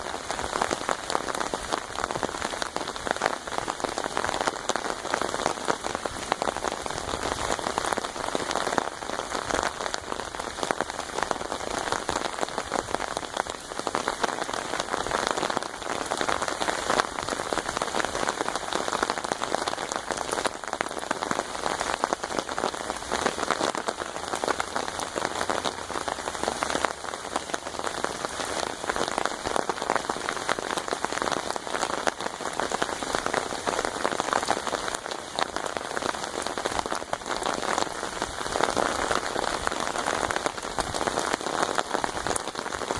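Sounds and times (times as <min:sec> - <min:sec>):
rain drumming on an umbrella: 0:00.0 - 0:42.9.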